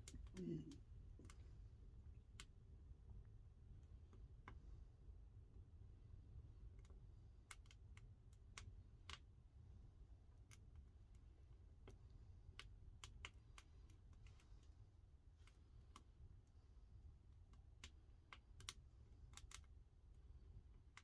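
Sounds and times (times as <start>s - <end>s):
kiln fire low rumble: 0.0s - 21.0s.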